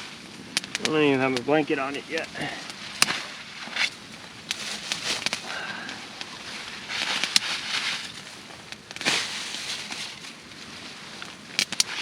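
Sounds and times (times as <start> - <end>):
twigs snapping: 0.5 - 6.3, 7.0 - 10.5, 11.2 - 12.0
pine boughs rustling: 0.5 - 12.0.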